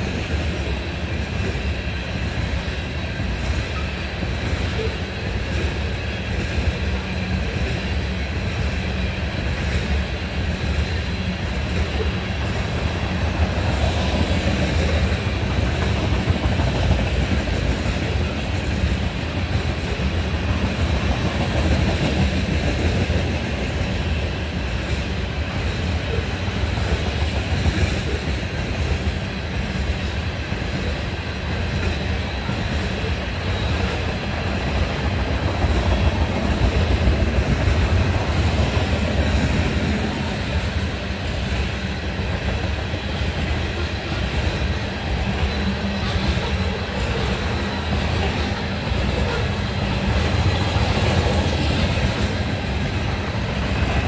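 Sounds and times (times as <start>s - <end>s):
clickety-clack of rail joints: 0.0s - 54.0s
train wheels rumbling on rail: 0.0s - 54.0s.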